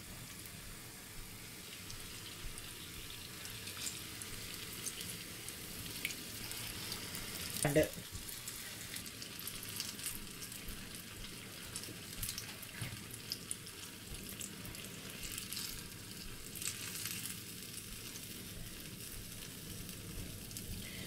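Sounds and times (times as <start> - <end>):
batter deep-frying in hot oil: 0.0 - 21.0.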